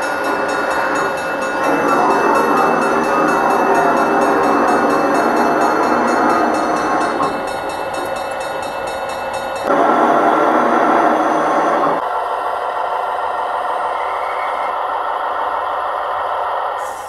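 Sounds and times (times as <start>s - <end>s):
loud burst of train sound: 0.0s - 17.0s
model train rolling on track: 0.0s - 17.0s.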